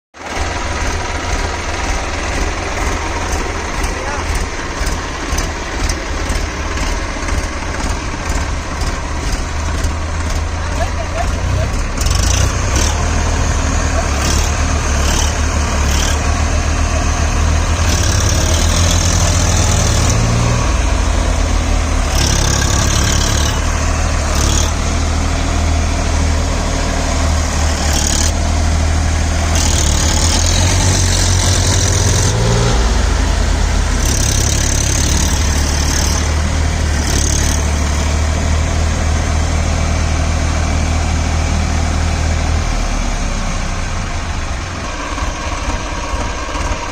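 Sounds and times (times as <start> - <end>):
tractor diesel engine under load: 0.1 - 46.9.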